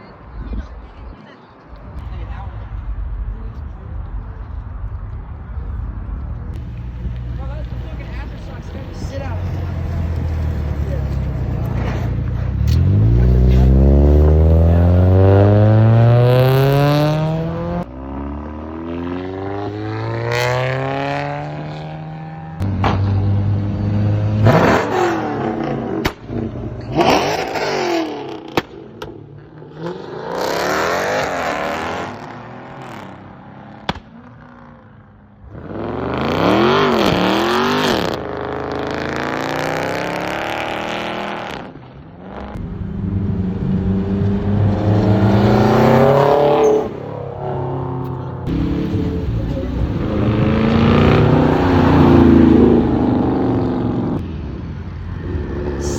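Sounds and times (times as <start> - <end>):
car engines revving: 2.7 - 55.9.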